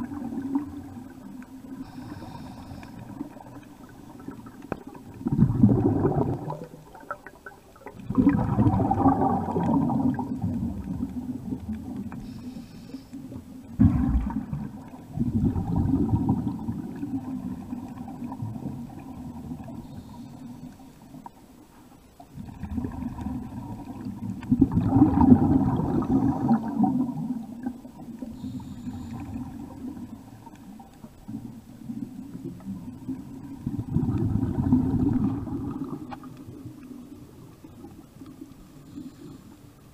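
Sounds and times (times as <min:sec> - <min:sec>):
underwater breath bubbling: 0:00.0 - 0:21.2, 0:22.3 - 0:37.2, 0:38.6 - 0:39.9.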